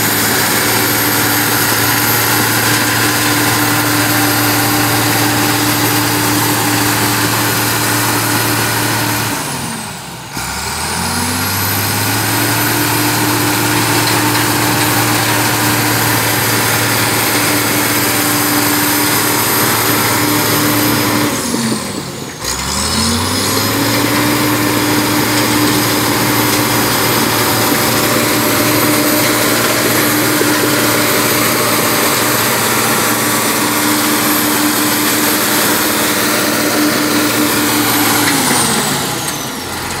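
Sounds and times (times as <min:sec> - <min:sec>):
diesel engine revving: 0:00.0 - 0:40.0.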